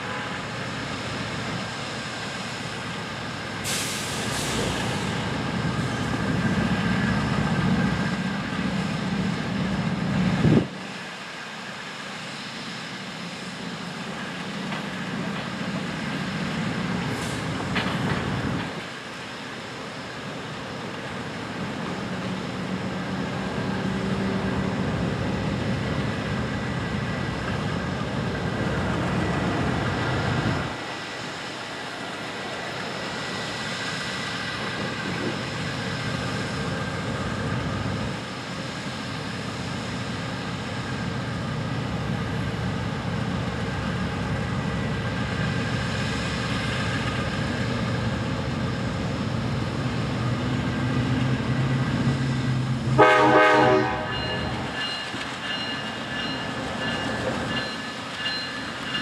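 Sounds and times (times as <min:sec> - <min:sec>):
standing train equipment hum: 0:00.0 - 0:59.0.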